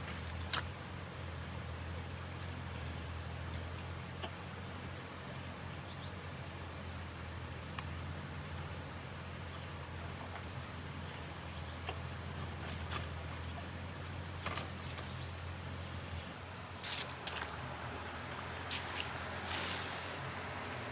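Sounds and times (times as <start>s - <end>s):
insects chirping: 0.0s - 20.9s
steady low hum: 0.0s - 20.9s.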